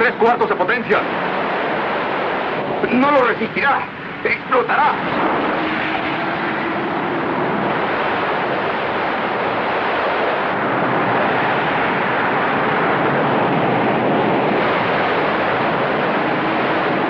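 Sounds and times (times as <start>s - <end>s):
spacecraft engines rushing: 0.0s - 17.0s.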